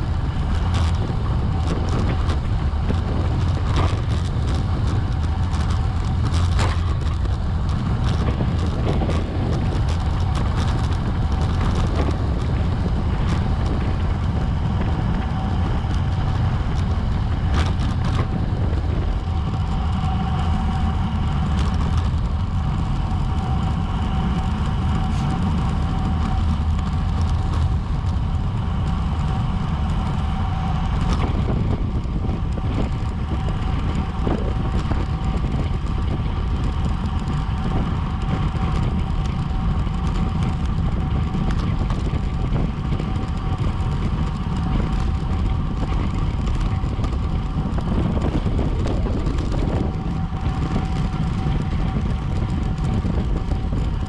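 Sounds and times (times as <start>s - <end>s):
bike clicks: 0.0s - 54.0s
faint steady whine: 0.0s - 54.0s
wind rushing over microphone: 0.0s - 54.0s.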